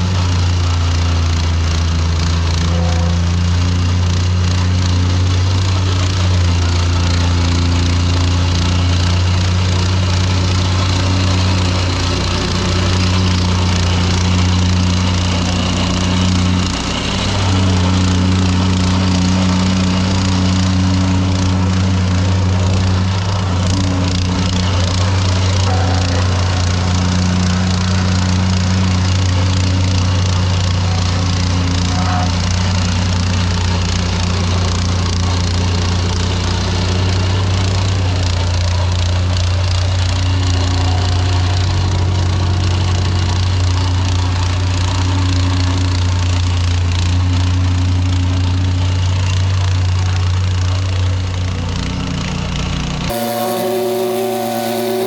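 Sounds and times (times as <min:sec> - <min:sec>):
heavy machinery droning and rattling: 0:00.0 - 0:45.8, 0:53.1 - 0:55.0.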